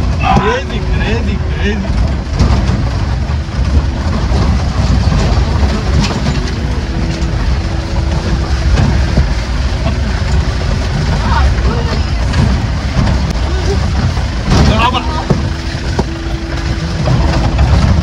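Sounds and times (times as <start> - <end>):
vehicle engine running: 0.0 - 18.0
vehicle rattling over rocky track: 0.0 - 18.0.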